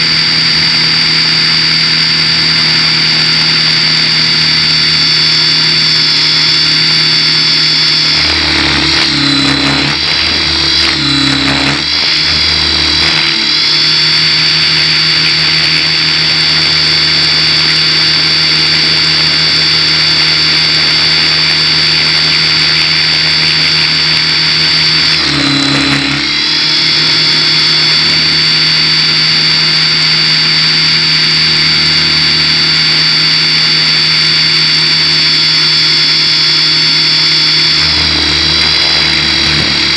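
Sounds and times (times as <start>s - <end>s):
model helicopter motor whine: 0.0s - 39.9s.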